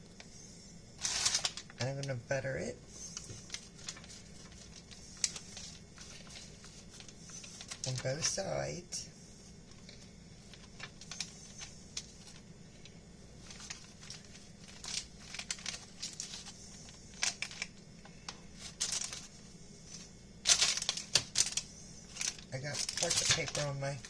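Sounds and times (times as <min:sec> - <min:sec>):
faint low hum: 0:00.0 - 0:24.0
soft crinkles and scrapes: 0:02.9 - 0:08.4, 0:09.2 - 0:24.0.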